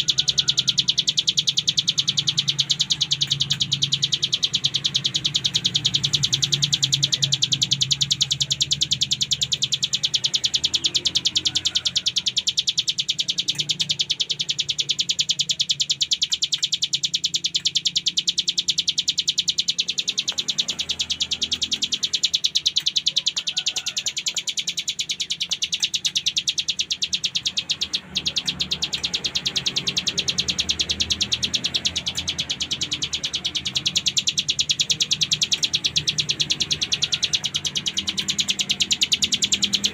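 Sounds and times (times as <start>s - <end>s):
bird singing fast buzzing rattle: 0.0s - 39.9s.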